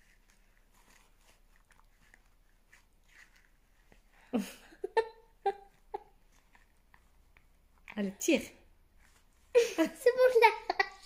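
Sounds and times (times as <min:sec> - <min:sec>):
mouth and tissue rustles: 0:00.0 - 0:11.0.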